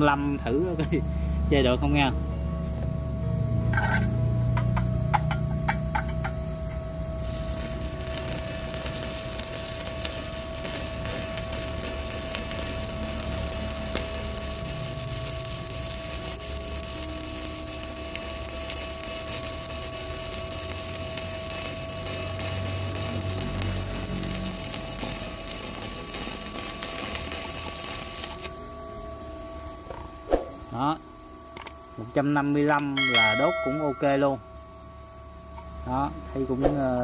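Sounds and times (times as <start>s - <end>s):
welding arc crackling sizzle: 0.0s - 2.2s, 3.5s - 34.4s, 35.2s - 37.0s
faint steady whine: 0.0s - 37.0s.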